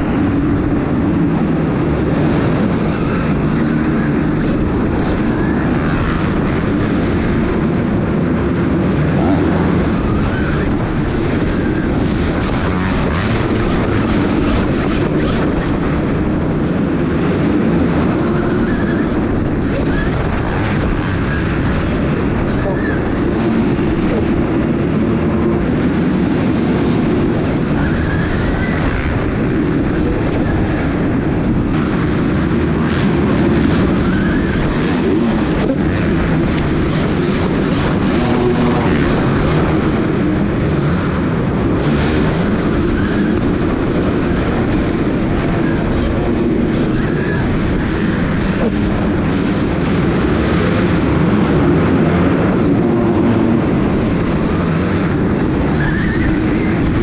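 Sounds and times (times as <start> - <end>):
dirt bike motor: 0.1 - 57.0.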